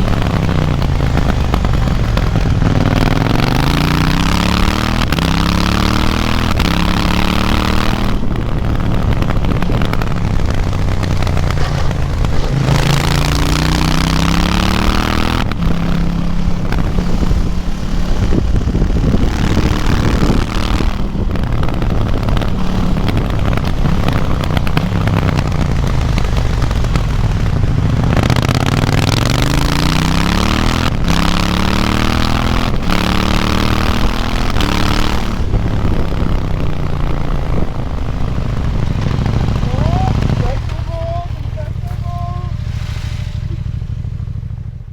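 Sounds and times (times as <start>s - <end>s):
motorcycle engine revving: 0.0s - 44.9s
wind rushing: 0.0s - 44.9s.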